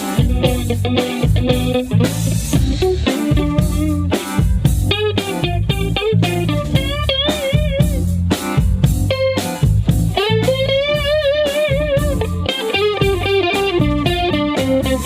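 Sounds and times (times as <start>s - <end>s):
bass guitar: 0.0s - 15.0s
drums: 0.0s - 15.0s
electric guitar blues lead: 0.0s - 15.0s.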